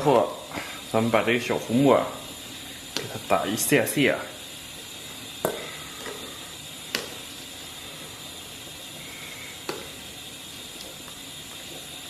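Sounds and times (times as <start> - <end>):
boiling water hiss: 0.0 - 12.0.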